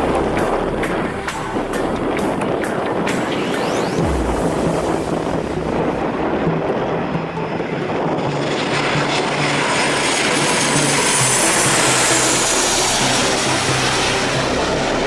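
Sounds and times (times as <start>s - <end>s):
jet engines roaring and whining: 0.0s - 15.0s.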